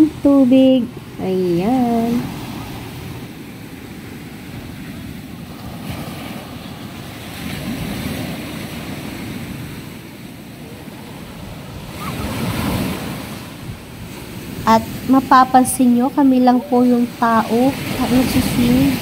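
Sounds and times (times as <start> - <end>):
sea surf breaking on beach: 0.0 - 19.0
wind rumbling on microphone: 0.0 - 19.0.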